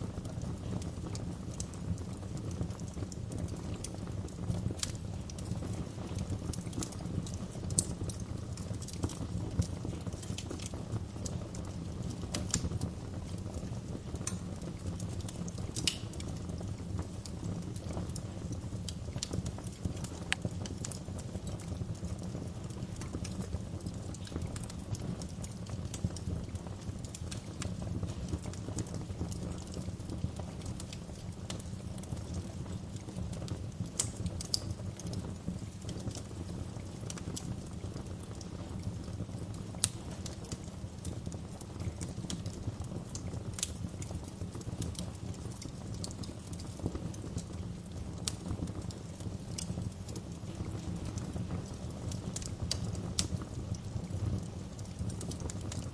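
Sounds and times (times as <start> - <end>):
fire popping: 0.0 - 55.9
low rumble of flames: 0.0 - 55.9
wood fire crackling: 0.0 - 55.9.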